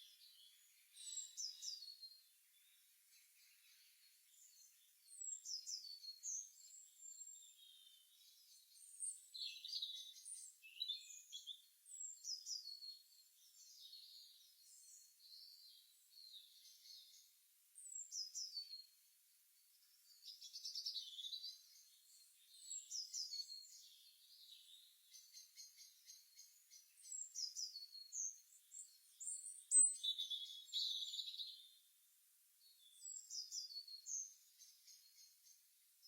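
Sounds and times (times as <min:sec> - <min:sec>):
songbirds chirping and singing: 0:00.0 - 0:19.0, 0:19.6 - 0:31.9, 0:32.6 - 0:35.8.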